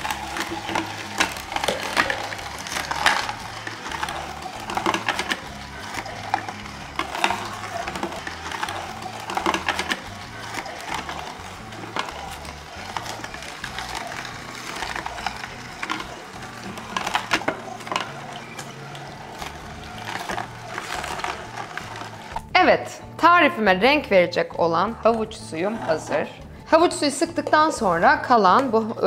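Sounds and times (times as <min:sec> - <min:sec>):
juicer crushing carrots: 0:00.0 - 0:22.6, 0:25.0 - 0:29.0.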